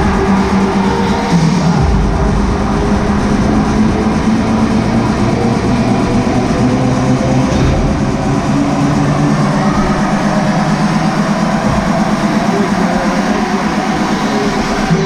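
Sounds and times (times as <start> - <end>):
loud music with low held notes: 0.0 - 15.0.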